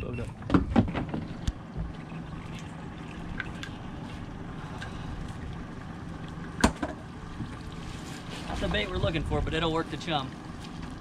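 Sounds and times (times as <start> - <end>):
steady low hum: 0.0 - 11.0
water: 0.0 - 11.0.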